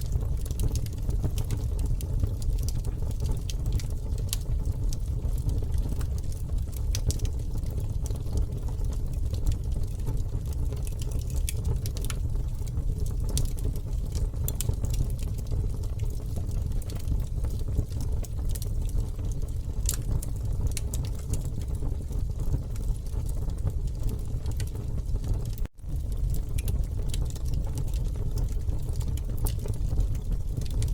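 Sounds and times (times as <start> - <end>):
burning wood crackling: 0.0 - 30.9
campfire flames rumbling: 0.0 - 30.9.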